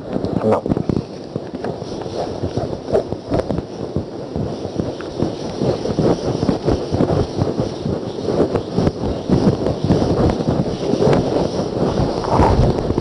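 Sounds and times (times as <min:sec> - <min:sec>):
whiteboard eraser rubbing: 0:00.9 - 0:13.0.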